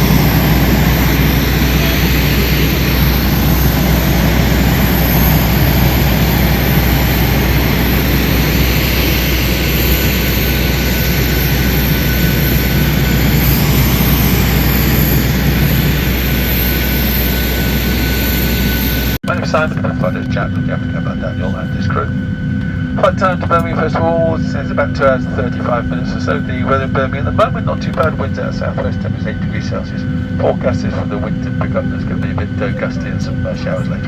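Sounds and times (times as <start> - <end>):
constant low hum: 0.0 - 34.0.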